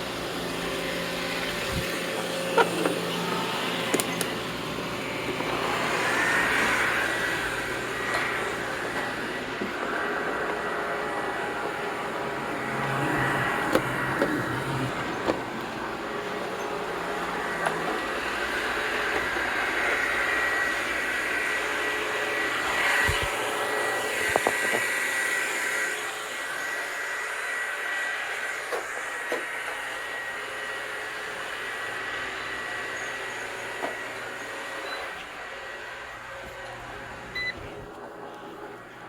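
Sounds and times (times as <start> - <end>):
robot vacuum cleaner whirring: 0.0 - 39.0.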